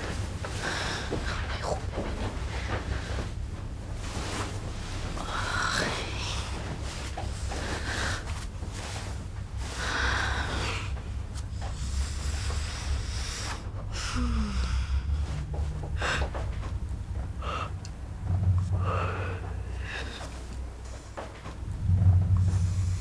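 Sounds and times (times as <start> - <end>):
steady low hum: 0.0 - 23.0
person breathing heavily: 0.4 - 3.3, 5.1 - 21.3.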